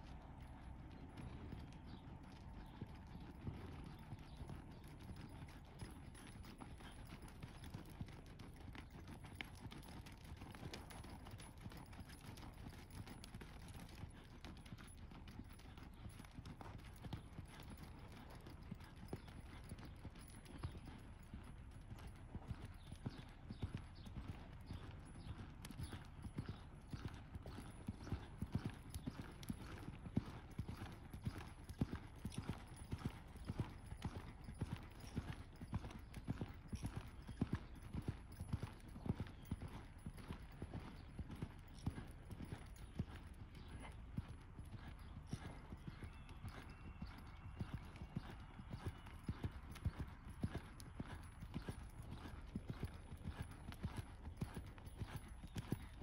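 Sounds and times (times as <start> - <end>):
horse hoofbeats on dirt: 0.0 - 56.0.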